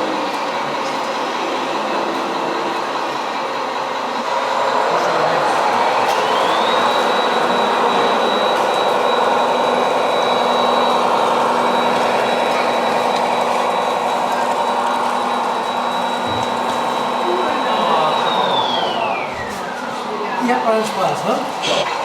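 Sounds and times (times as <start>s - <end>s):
high electric drive whine: 0.0s - 20.3s
engine-like drone: 0.0s - 22.0s.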